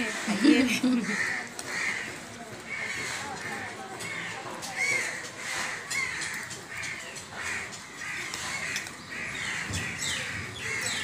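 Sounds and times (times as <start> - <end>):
crows cawing: 0.9 - 11.0.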